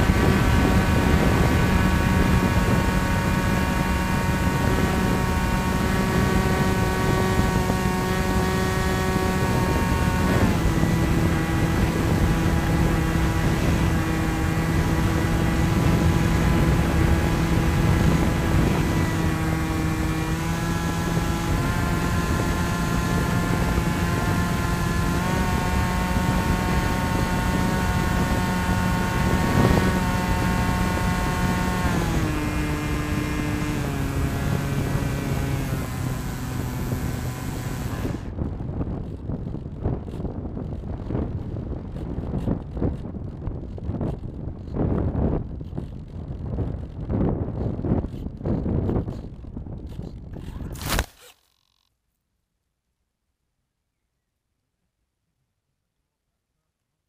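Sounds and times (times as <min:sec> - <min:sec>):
electric motor and propeller whining: 0:00.0 - 0:51.9.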